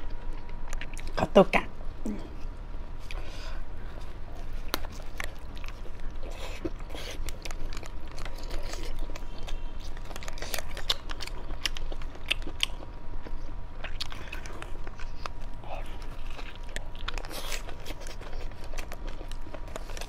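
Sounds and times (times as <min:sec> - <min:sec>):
crunchy food chewing: 0:00.0 - 0:01.2, 0:02.4 - 0:20.0
wet mouth chewing sounds: 0:02.4 - 0:20.0.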